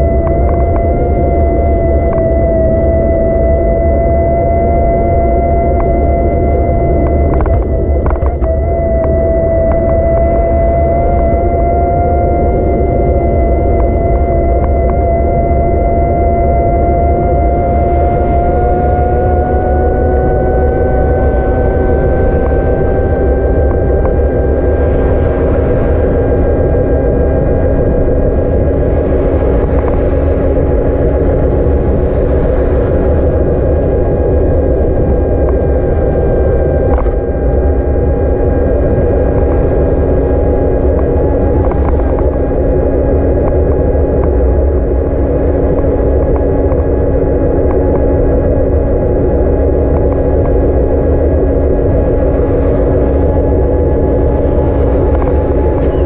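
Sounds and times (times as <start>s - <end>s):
electric bike motor whining: 0.0s - 56.0s
wind rumble on microphone: 0.0s - 56.0s.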